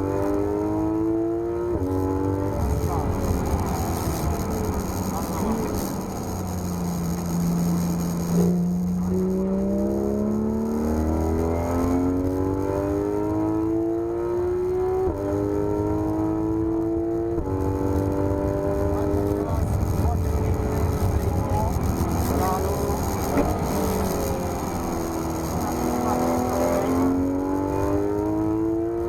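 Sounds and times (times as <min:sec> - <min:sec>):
car engine revving under full throttle: 0:00.0 - 0:29.0
gear upshifts: 0:01.8 - 0:13.6, 0:17.4 - 0:29.0.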